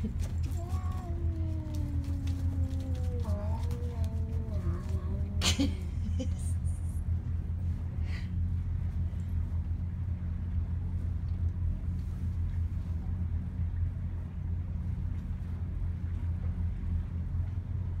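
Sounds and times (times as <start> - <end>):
low machine drone: 0.0 - 18.0.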